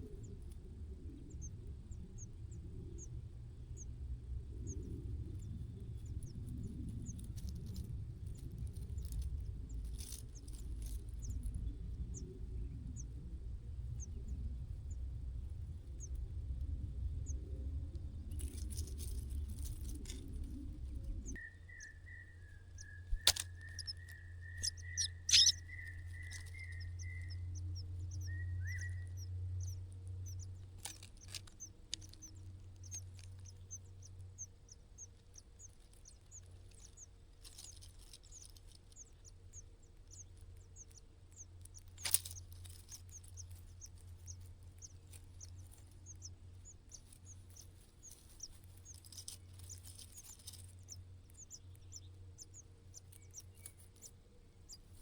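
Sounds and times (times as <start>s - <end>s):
low hum: 0.0s - 55.0s
small birds chirping: 0.0s - 55.0s.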